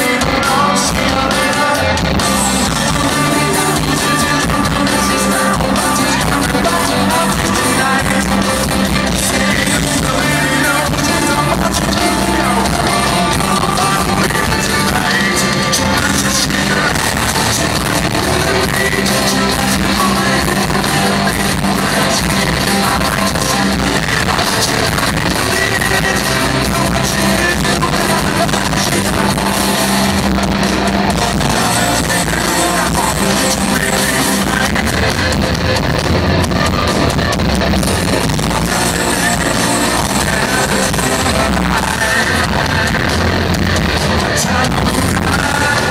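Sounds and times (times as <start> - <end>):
bass guitar: 0.0 - 45.9
distorted electric guitars: 0.0 - 45.9
drums: 0.0 - 45.9
man singing lead vocals: 0.0 - 45.9.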